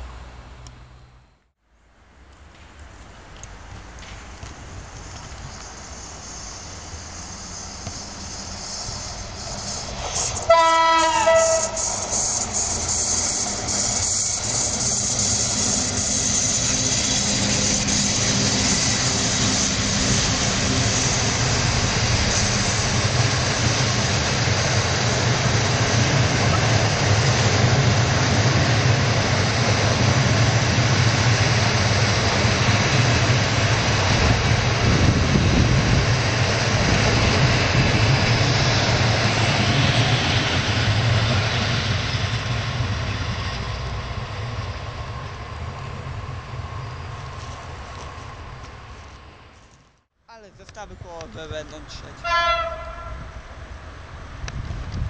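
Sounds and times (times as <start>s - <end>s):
train wheels rolling on rails: 1.9s - 55.0s.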